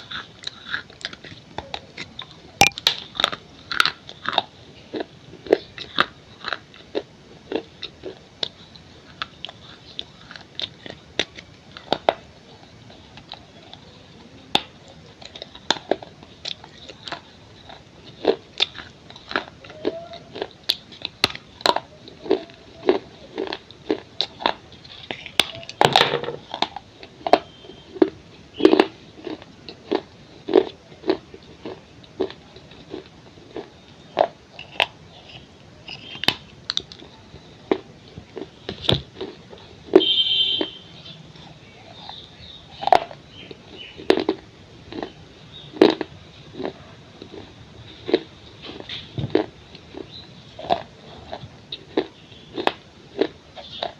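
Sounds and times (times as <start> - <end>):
clay pieces crunching when chewed: 0.0 - 53.9.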